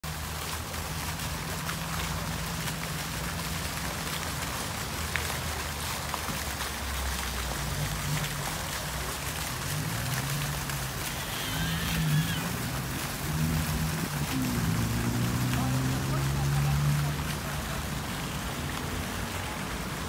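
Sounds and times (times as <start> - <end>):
fountain splashing into pool: 0.0 - 20.0.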